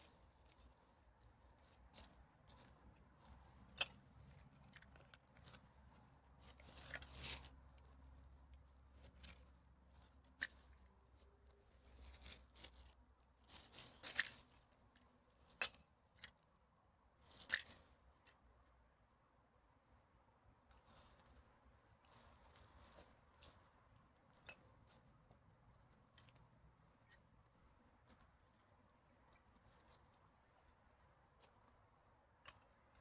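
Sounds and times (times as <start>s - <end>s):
rustles and crinkles of litter: 0.0s - 16.4s, 17.2s - 18.5s, 20.6s - 33.0s.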